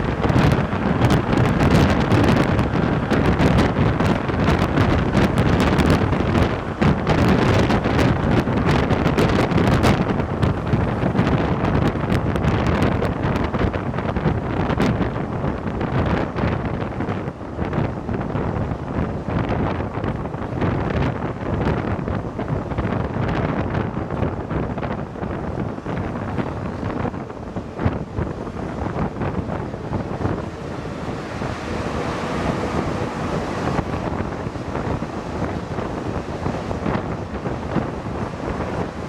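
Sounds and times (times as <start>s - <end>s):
metro train rumble and rush: 0.0s - 39.0s.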